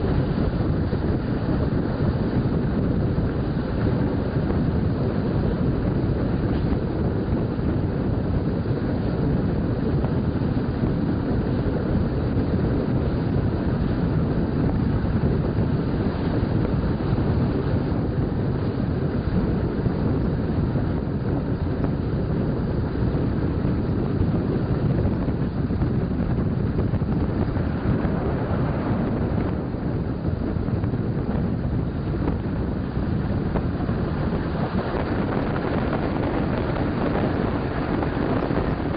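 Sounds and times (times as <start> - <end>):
train rumbling at speed: 0.0 - 38.9
wind noise on microphone: 0.0 - 38.9.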